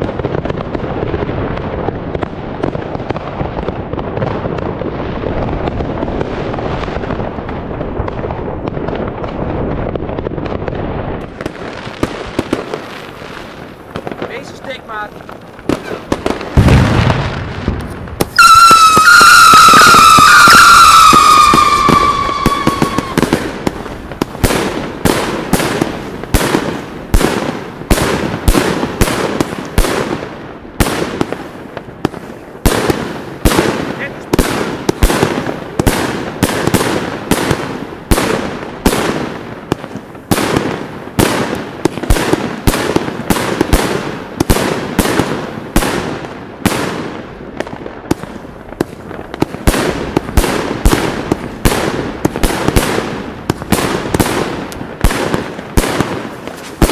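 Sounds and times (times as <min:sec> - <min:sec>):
fireworks bangs: 0:00.0 - 0:56.9
fireworks crackling: 0:00.0 - 0:56.9.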